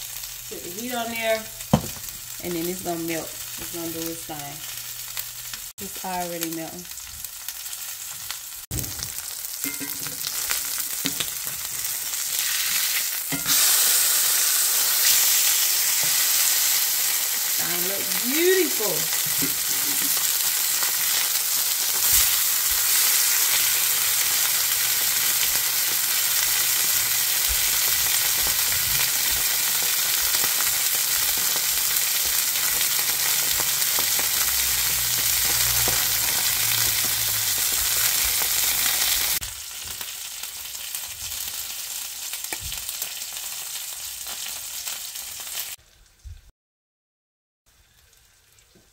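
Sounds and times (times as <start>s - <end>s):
fish sizzling in oil: 0.0s - 45.8s, 47.7s - 48.9s.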